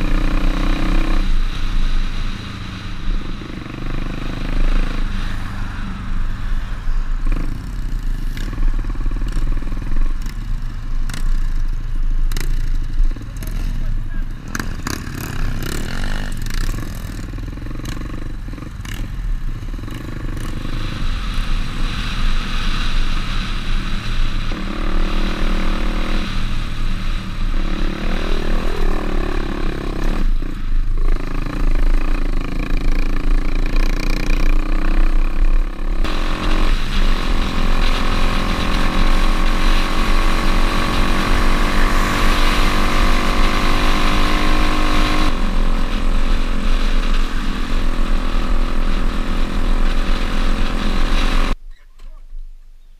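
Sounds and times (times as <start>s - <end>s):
motorbike engine revving: 0.0s - 51.6s.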